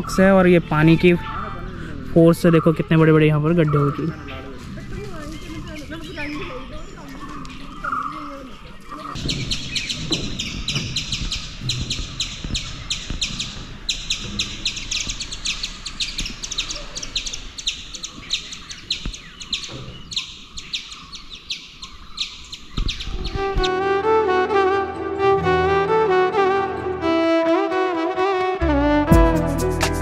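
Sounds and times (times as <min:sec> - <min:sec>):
birds chirping: 0:00.0 - 0:27.2.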